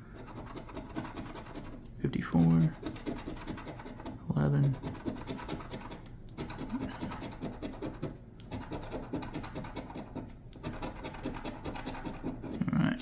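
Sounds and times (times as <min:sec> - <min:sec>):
coin scratching a scratch ticket: 0:00.1 - 0:12.8.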